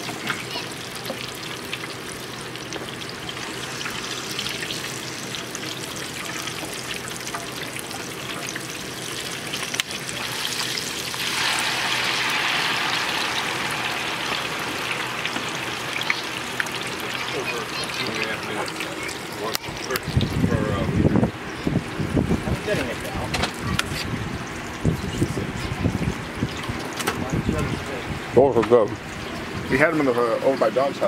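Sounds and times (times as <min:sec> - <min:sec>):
food frying in hot oil: 0:00.0 - 0:31.0.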